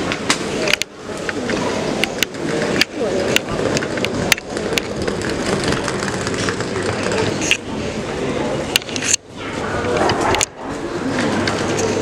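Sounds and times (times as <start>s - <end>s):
crowd talking: 0.0s - 12.0s.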